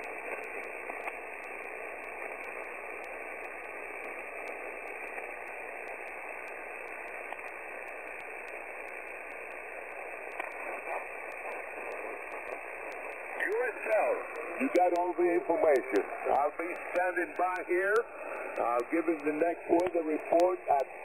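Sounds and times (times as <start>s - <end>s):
shortwave receiver hiss: 0.0s - 21.0s.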